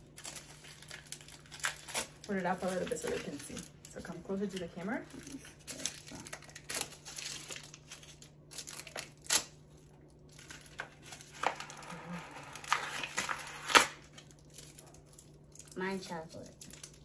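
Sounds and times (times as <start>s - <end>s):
wrapper crinkling and tearing: 0.0s - 17.0s.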